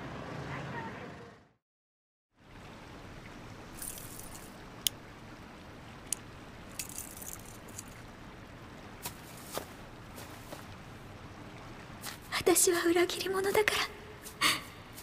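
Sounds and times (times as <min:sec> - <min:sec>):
soft trickling night ambience: 0:02.3 - 0:15.0.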